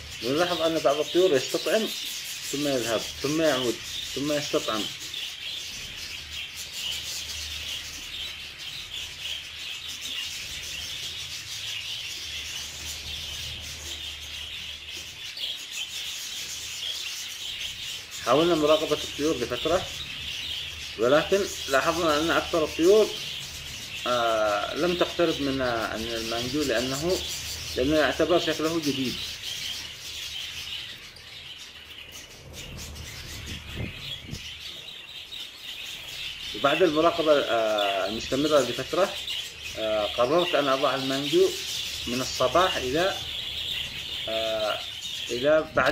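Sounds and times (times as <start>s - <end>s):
budgerigars chattering: 0.0s - 45.9s.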